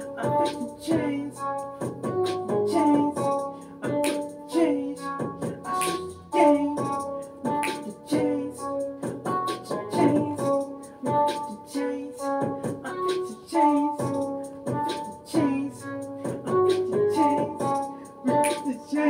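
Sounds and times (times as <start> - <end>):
held keyboard chords: 0.0 - 19.0
steady regular beat: 0.0 - 19.0.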